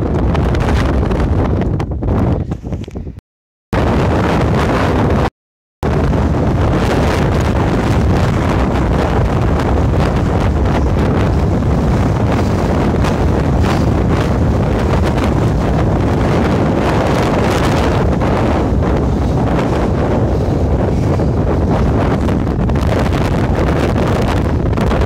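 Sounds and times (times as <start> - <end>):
wind buffeting microphone: 0.0 - 3.2, 3.8 - 25.0.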